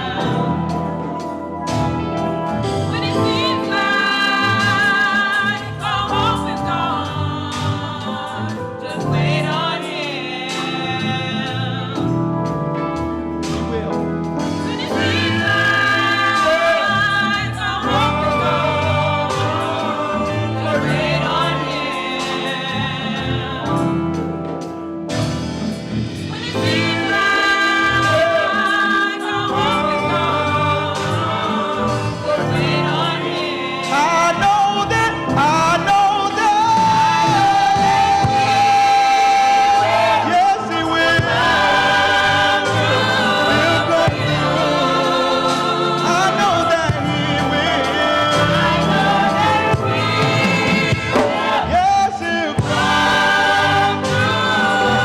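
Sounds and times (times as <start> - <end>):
gospel choir singing: 0.0 - 55.0.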